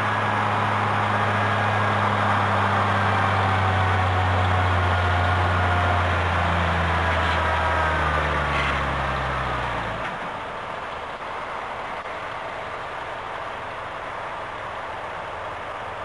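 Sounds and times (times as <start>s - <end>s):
diesel engine rumble: 0.0s - 16.0s.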